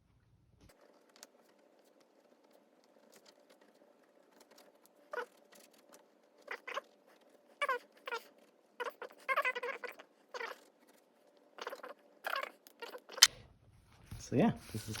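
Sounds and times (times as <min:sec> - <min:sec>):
light ticks and scratches: 0:00.6 - 0:13.3, 0:13.9 - 0:15.0.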